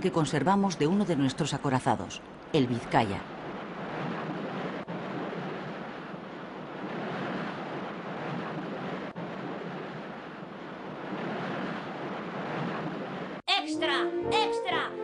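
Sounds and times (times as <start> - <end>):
sea waves rushing: 0.0 - 15.0
wind: 0.0 - 15.0.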